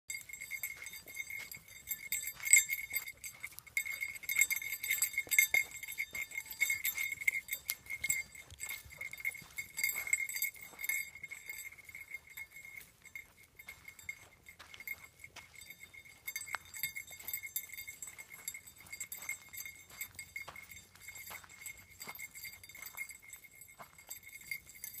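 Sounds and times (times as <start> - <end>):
collar bell jingling: 0.1 - 25.0.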